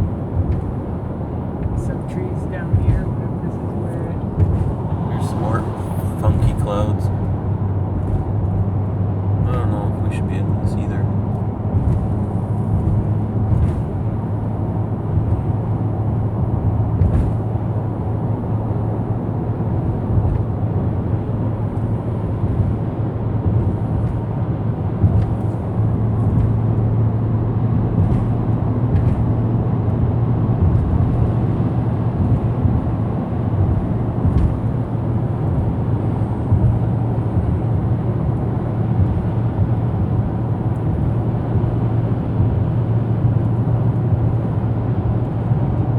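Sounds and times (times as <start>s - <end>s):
car engine hum: 0.0s - 45.9s.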